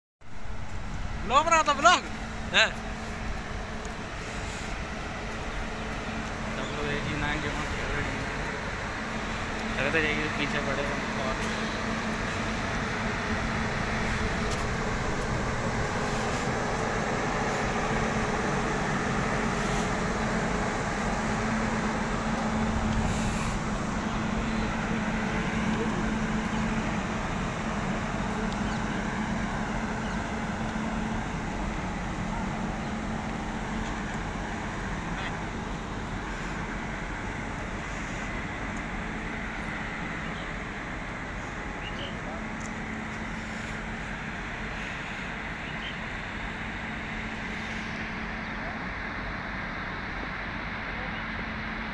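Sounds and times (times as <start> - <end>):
locomotive machinery humming: 0.2 - 51.9.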